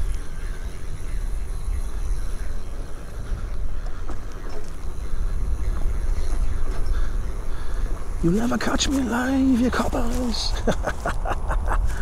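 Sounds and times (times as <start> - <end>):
tyres running on ground: 0.0 - 12.0
wind buffeting microphone: 0.0 - 12.0.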